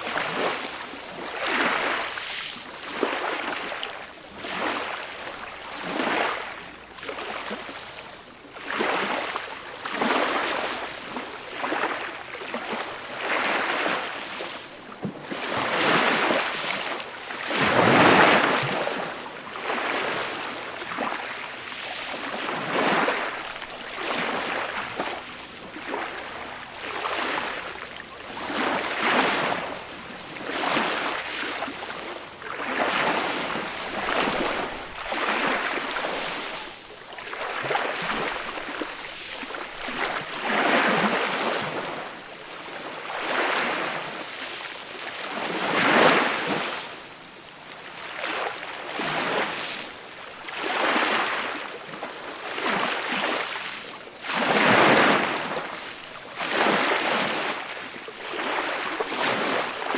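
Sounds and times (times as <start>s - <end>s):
gentle waves washing on shore: 0.0s - 59.9s.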